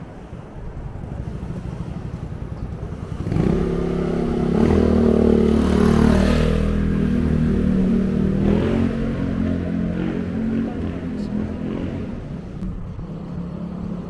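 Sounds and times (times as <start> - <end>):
vehicle engine passing by: 1.2 - 14.0.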